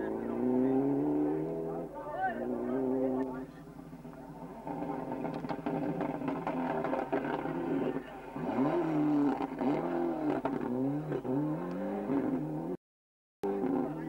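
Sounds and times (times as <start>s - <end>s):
rally car engine revving: 0.0s - 12.8s, 13.4s - 14.0s.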